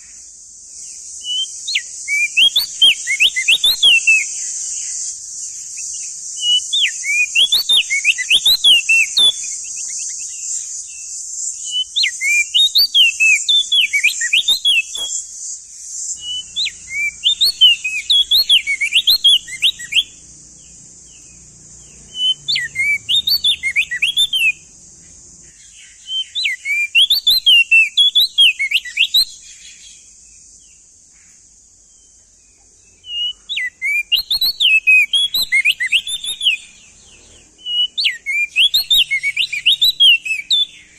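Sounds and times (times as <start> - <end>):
steady high hiss: 0.0 - 40.9
bird singing whistled phrases: 1.2 - 15.3, 16.1 - 20.2, 21.1 - 24.7, 25.5 - 30.0, 33.0 - 40.9.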